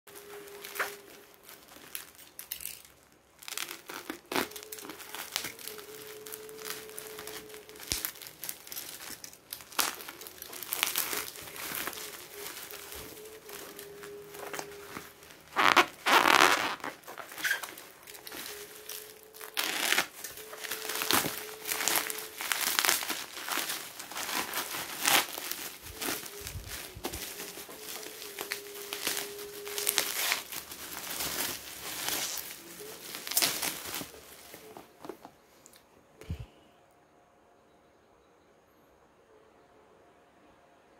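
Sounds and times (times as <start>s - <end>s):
packaging tearing: 0.1s - 34.8s
plastic packaging crinkling: 0.1s - 35.8s.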